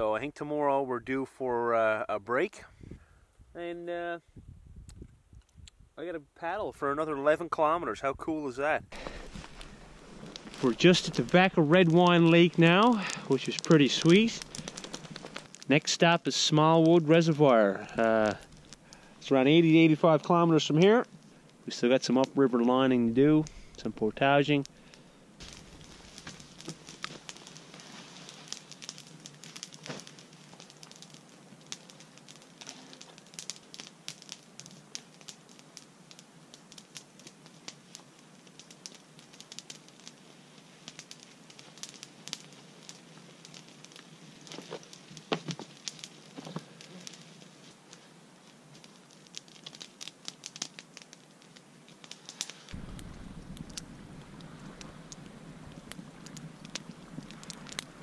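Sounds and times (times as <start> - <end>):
campfire crackling and popping: 8.9 - 58.0
loud fire snaps: 8.9 - 58.0.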